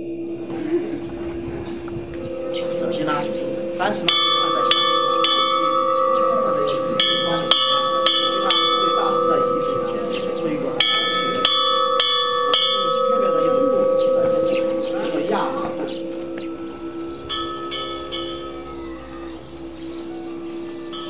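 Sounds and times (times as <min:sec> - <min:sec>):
murmur of voices: 0:00.0 - 0:21.0
steady ringing tone: 0:00.0 - 0:21.0
metal bells struck: 0:01.6 - 0:21.0.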